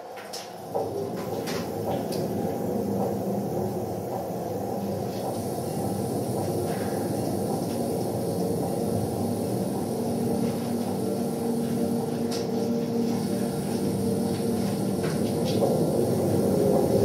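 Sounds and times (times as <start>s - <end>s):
noise music drone: 0.6s - 17.0s.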